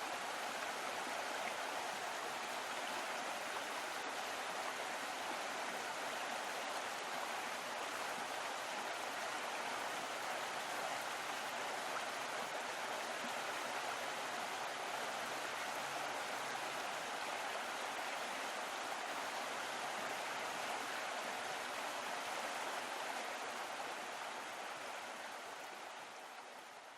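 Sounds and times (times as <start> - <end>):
rushing flowing water: 0.0 - 26.9.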